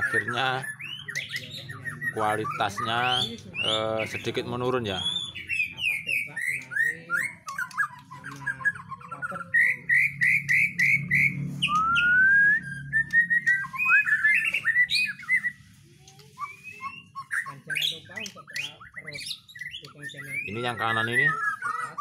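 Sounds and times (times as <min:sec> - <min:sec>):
songbird whistling: 0:00.0 - 0:22.0.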